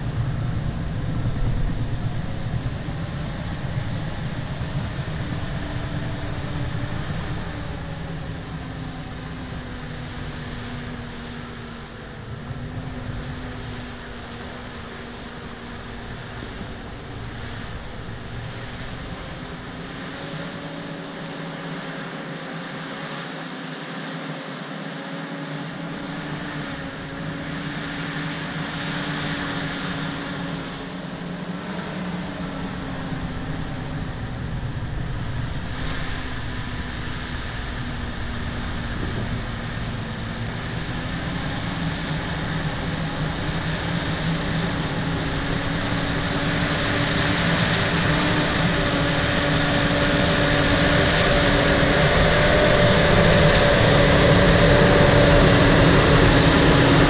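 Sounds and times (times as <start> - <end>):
diesel engine under load: 0.0 - 23.0, 25.3 - 57.0.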